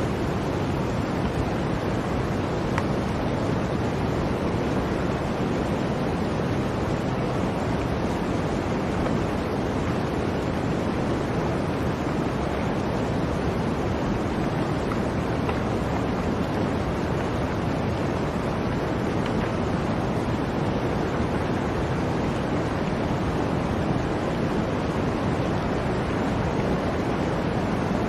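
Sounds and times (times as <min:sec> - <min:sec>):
blizzard wind blowing: 0:00.0 - 0:28.0.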